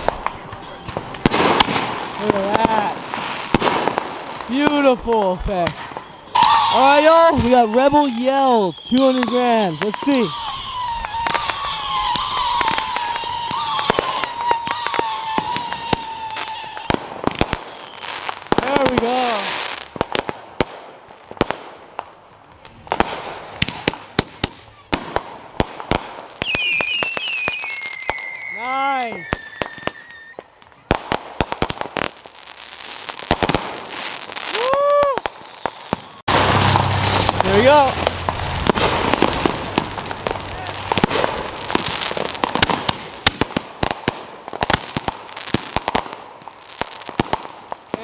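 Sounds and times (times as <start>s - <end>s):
firework bangs: 0.0s - 48.0s.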